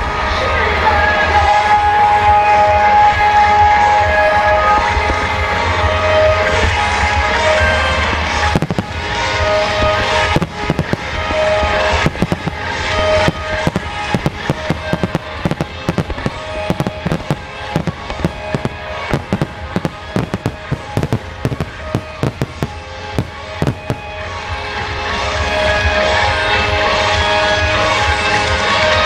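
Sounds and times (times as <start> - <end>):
music on loudspeakers: 0.0 - 29.0
fireworks bursting: 3.2 - 26.5.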